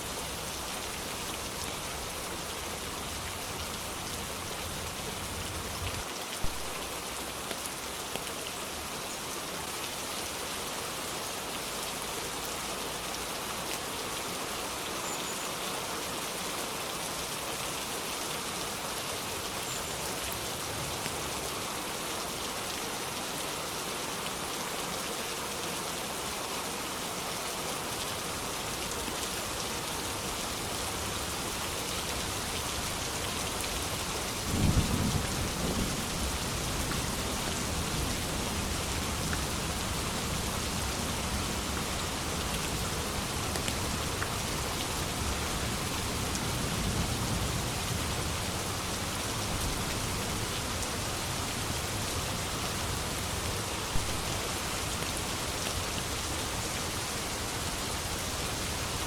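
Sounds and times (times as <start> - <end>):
dense rainfall hissing: 0.0 - 59.0.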